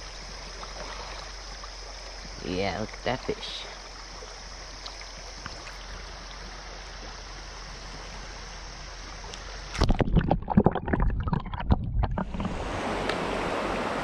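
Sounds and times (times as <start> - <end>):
creek water rushing: 0.0 - 9.9, 12.3 - 14.0
muffled underwater sloshing: 0.0 - 14.0.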